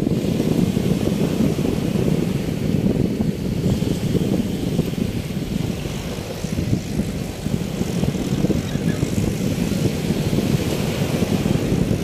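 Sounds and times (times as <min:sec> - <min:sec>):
small waves breaking on shore: 0:00.0 - 0:12.0
wind buffeting microphone: 0:00.0 - 0:12.0.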